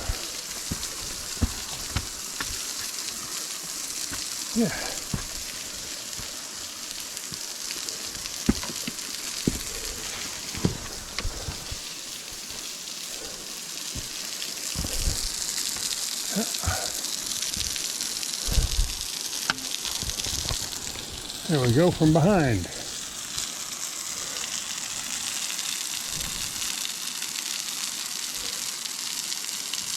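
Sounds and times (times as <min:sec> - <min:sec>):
waterfall splashing onto rock: 0:00.0 - 0:22.4, 0:24.8 - 0:28.2.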